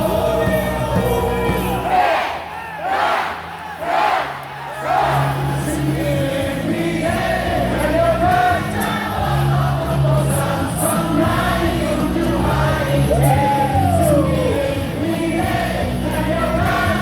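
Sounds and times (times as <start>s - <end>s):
music over loudspeakers: 0.0s - 17.0s
stadium crowd singing in unison: 0.0s - 17.0s.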